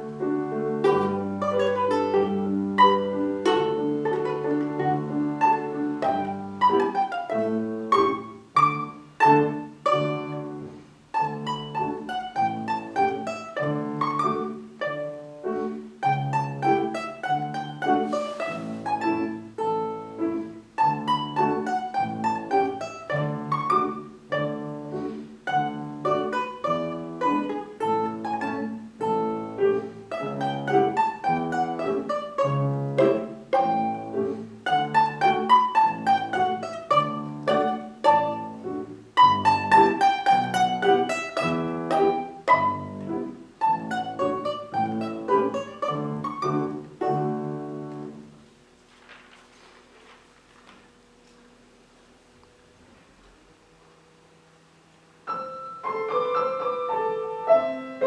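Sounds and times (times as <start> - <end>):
plucked string instrument melody: 0.0 - 51.4, 54.5 - 58.0.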